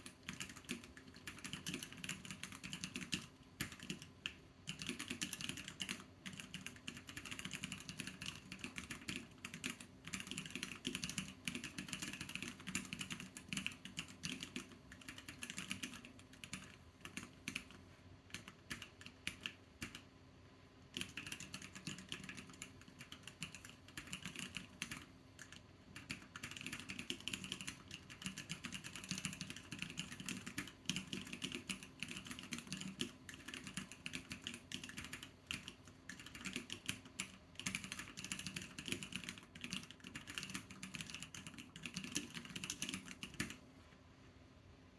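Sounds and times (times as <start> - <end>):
mechanical keyboard typing: 0.0 - 20.1, 20.9 - 43.6.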